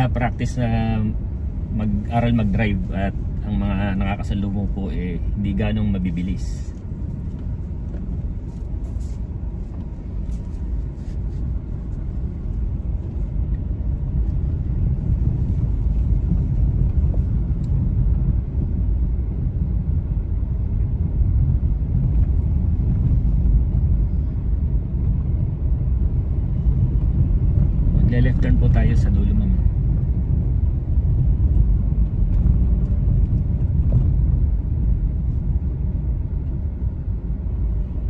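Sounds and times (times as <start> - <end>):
car engine and tyre rumble: 0.0 - 38.0.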